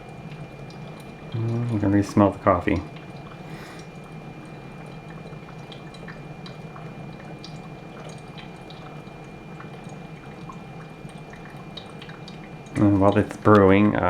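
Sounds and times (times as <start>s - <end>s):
coffee dripping into carafe: 0.0s - 14.0s
coffee maker humming: 0.0s - 14.0s.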